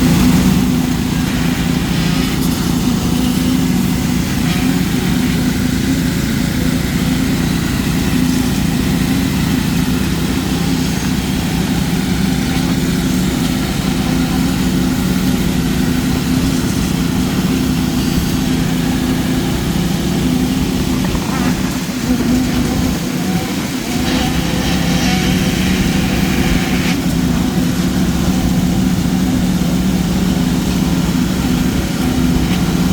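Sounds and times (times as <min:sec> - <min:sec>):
heavy machinery engine droning: 0:00.0 - 0:32.9.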